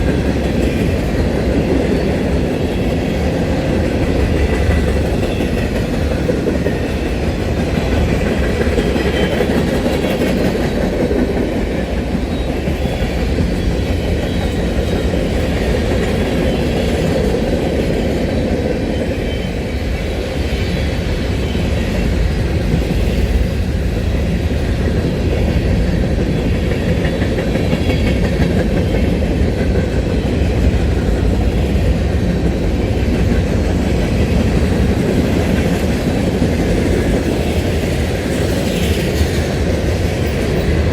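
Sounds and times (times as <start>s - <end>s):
train cars rumbling past: 0.0s - 40.9s
wheels clacking over rail joints: 0.0s - 40.9s.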